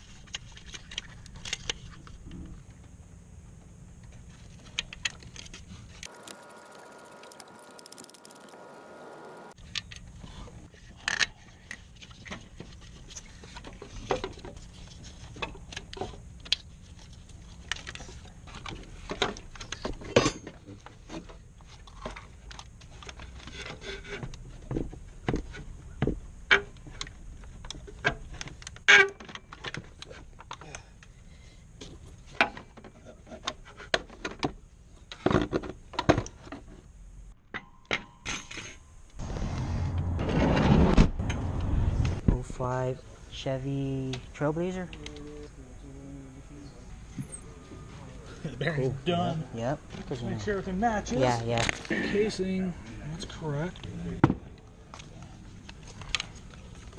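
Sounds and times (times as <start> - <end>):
low background hum: 0.0 - 56.9.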